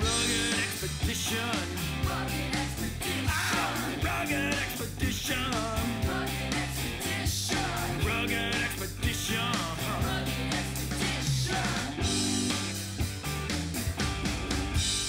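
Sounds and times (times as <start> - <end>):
person singing: 0.0 - 12.2
drum beat: 0.0 - 15.0
guitar: 0.0 - 15.0.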